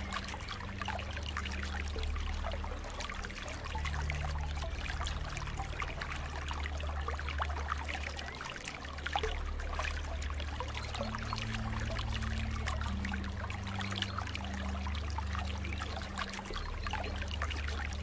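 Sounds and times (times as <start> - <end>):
low water rumble: 0.0 - 18.0
water trickling and splashing: 0.0 - 18.0.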